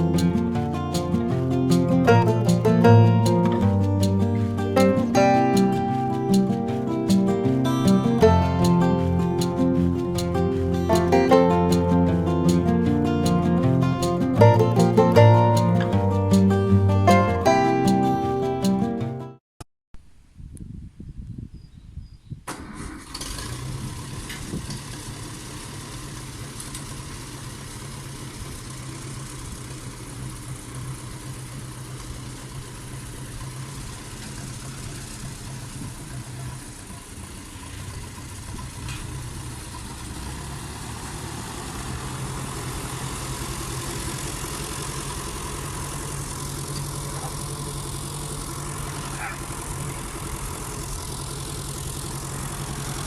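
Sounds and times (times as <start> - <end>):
tractor engine idling: 0.0 - 18.8, 22.5 - 53.0.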